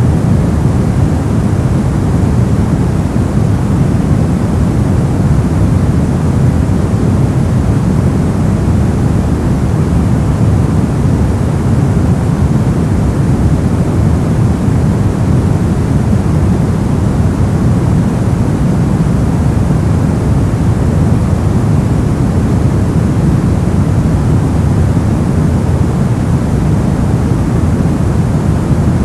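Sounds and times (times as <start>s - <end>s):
brown noise hiss: 0.0s - 29.0s.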